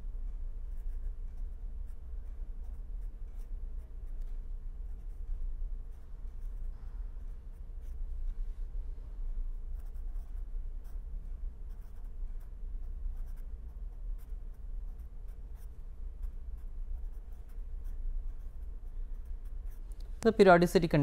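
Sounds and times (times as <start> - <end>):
steady low hum: 0.0 - 21.0
pen scratching on paper: 0.7 - 5.3, 5.9 - 8.1, 9.5 - 19.8.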